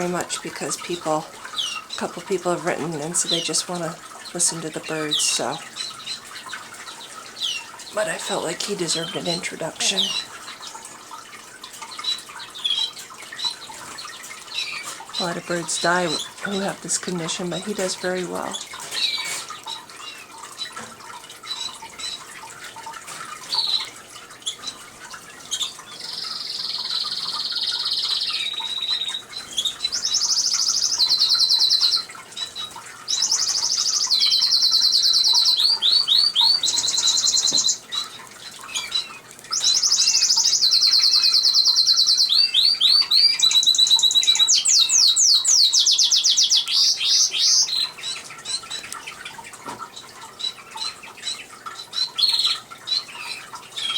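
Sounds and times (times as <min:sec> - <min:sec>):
canary singing trills: 0:00.0 - 0:10.8, 0:11.8 - 0:20.8, 0:23.3 - 0:53.9.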